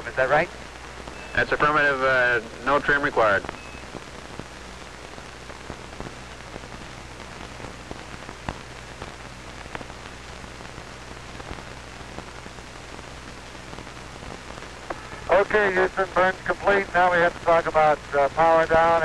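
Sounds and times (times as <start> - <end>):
low steady hum: 0.0 - 19.0
radio crackles: 0.0 - 19.0
radio hiss: 0.0 - 19.0.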